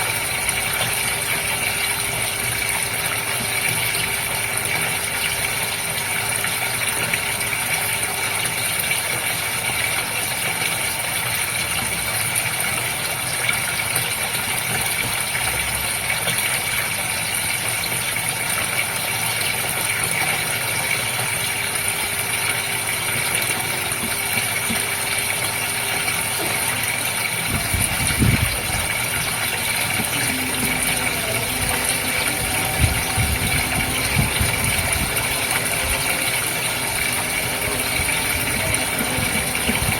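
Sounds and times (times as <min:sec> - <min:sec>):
aquarium pump humming: 0:00.0 - 0:39.9
water noise: 0:00.0 - 0:39.9.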